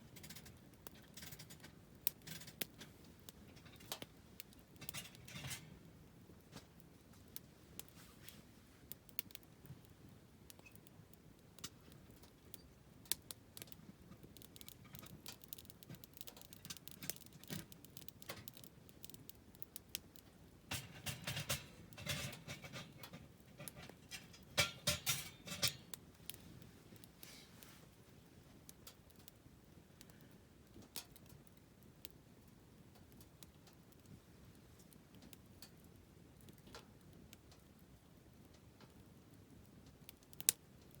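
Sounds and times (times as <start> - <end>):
campfire crackling and popping: 0.0 - 41.0.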